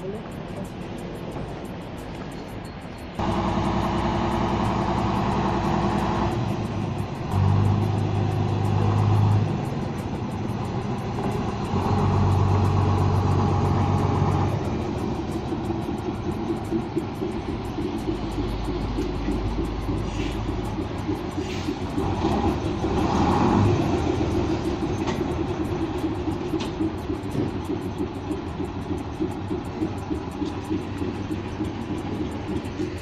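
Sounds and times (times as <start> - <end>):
locomotive engine running: 0.0 - 33.0.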